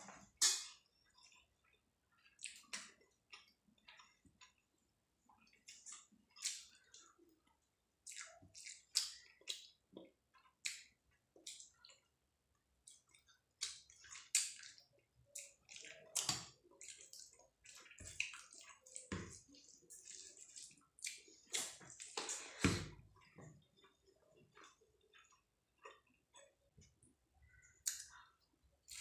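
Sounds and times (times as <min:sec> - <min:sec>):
wet chewing and lip smacks: 0:00.2 - 0:29.0.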